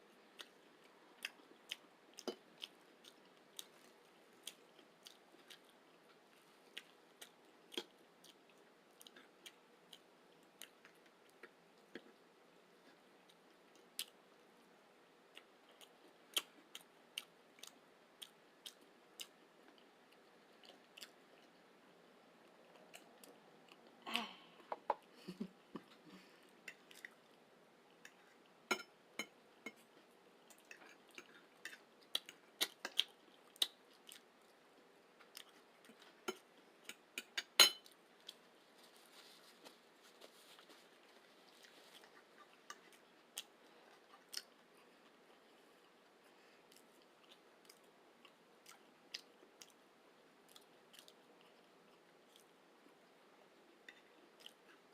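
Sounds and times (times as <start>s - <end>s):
chewing: 0.3s - 12.2s, 15.3s - 21.7s, 25.4s - 49.8s, 50.4s - 52.6s, 53.7s - 54.9s.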